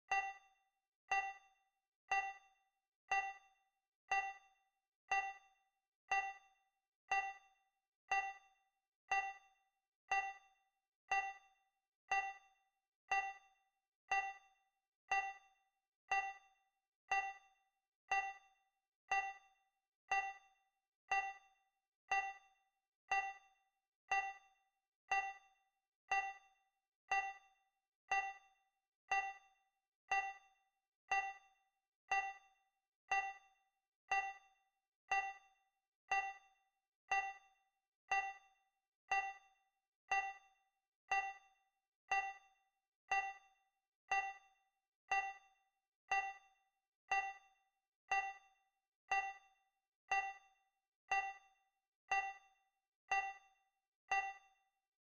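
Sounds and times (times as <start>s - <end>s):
bright timer dings: 0.1s - 54.7s.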